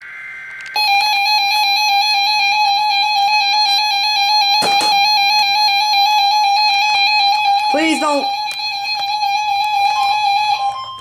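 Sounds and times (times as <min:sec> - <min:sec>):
loud steady alarm tone: 0:00.1 - 0:11.0.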